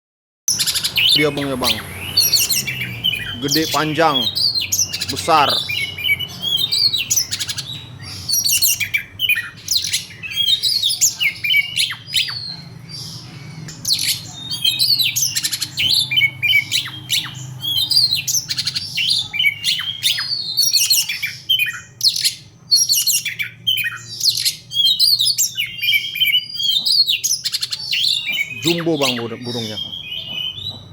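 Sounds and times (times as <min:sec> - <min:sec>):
bird singing whistles and rasps: 0:00.5 - 0:30.9.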